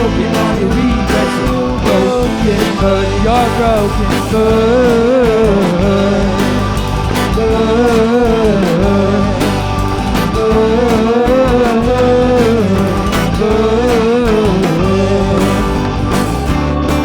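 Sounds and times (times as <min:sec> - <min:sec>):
bending lead melody: 0:00.0 - 0:17.0
live rock band playing: 0:00.0 - 0:17.0.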